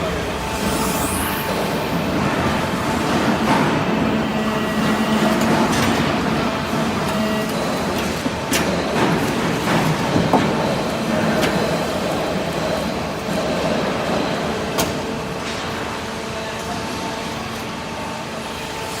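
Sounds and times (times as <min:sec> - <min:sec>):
baler press machine running: 0:00.0 - 0:19.0.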